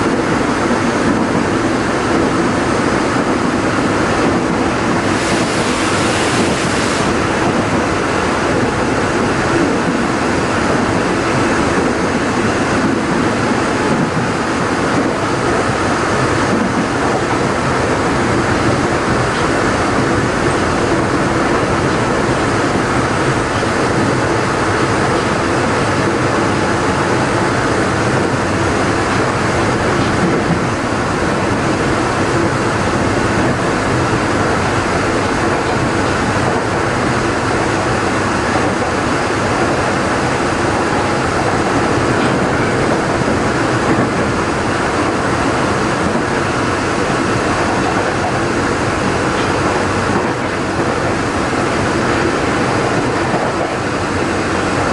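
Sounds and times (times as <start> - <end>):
electric train running: 0.0 - 54.9
wheel and rail noise: 0.0 - 54.9.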